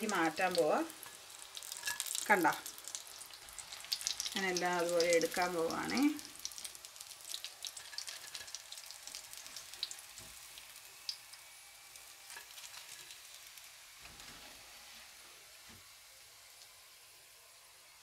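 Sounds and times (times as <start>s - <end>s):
oil sizzling in frying pan: 0.0s - 18.0s.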